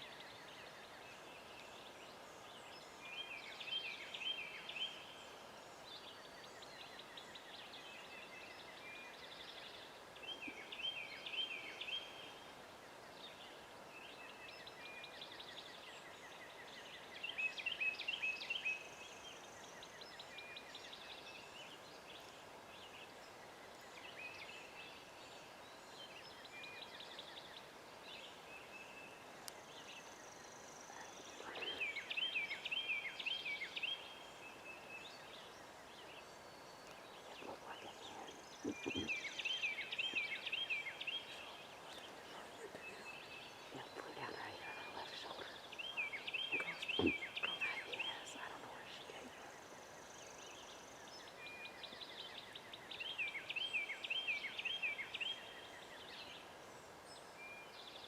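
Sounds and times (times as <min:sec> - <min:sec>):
small birds calling: 0:00.0 - 0:58.0.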